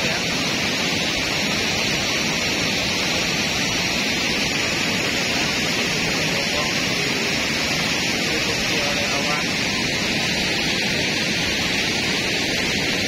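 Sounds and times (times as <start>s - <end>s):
water pouring over a weir: 0.0s - 13.0s.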